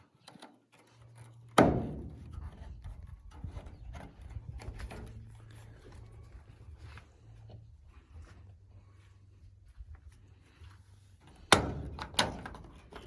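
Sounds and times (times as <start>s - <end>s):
steady low hum: 1.3s - 13.0s.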